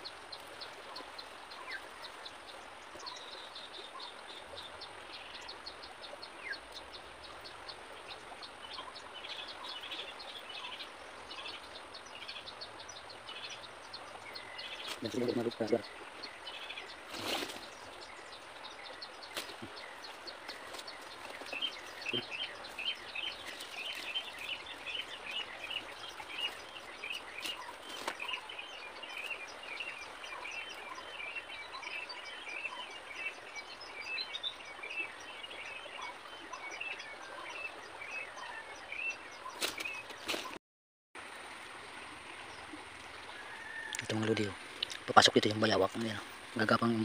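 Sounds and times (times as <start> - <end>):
steady outdoor hiss: 0.0 - 40.5, 41.2 - 47.0
bird chirping: 0.0 - 40.6.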